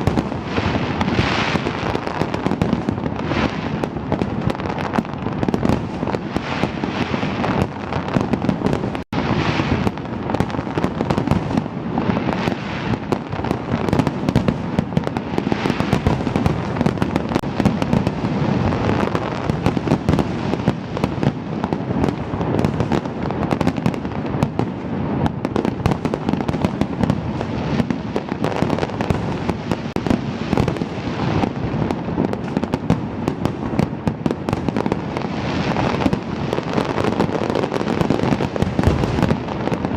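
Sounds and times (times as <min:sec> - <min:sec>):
fireworks bursts and crackling: 0:00.0 - 0:39.9.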